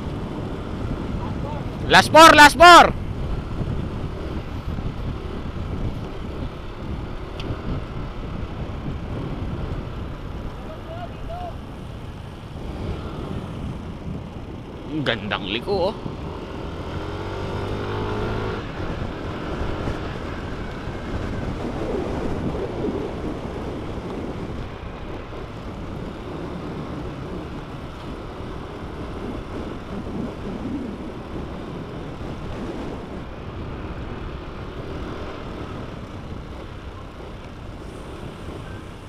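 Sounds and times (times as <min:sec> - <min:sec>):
motorcycle engine running: 0:00.0 - 0:02.1, 0:02.9 - 0:39.0
wind noise: 0:00.0 - 0:39.0.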